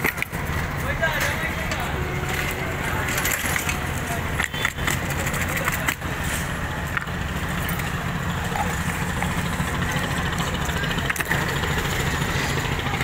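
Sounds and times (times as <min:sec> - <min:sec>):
low traffic rumble: 0:00.0 - 0:13.0
vehicle engines running: 0:00.0 - 0:13.0.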